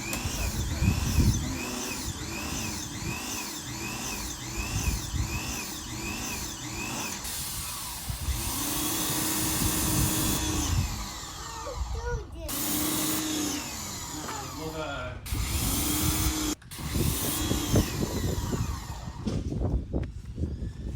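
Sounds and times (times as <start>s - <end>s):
pressure washer motor whining: 0.0s - 19.7s.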